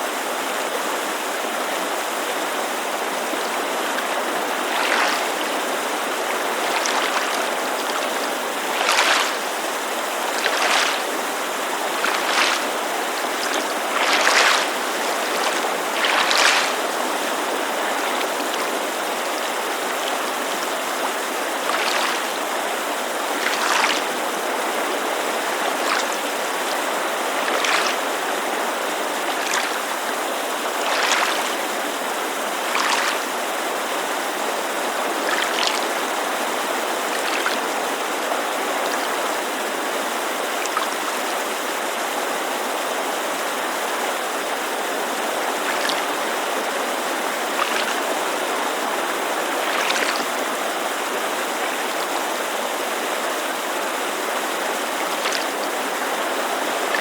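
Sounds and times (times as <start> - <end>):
creek rushing: 0.0 - 57.0
small waves lapping shore: 0.0 - 57.0.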